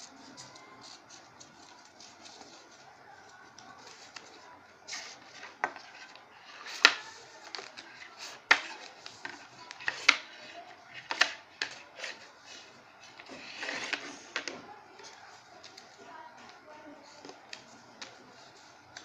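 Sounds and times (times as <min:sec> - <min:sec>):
paper rustling: 0:00.0 - 0:19.0.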